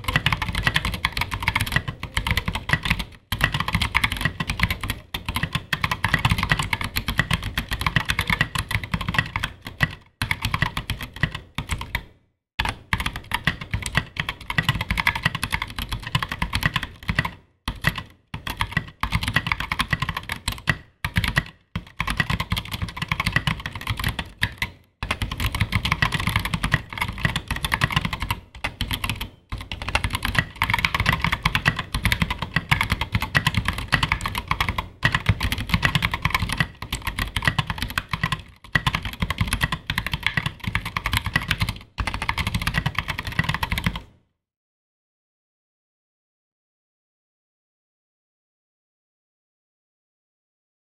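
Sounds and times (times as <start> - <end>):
mechanical keyboard typing: 0.0 - 44.1.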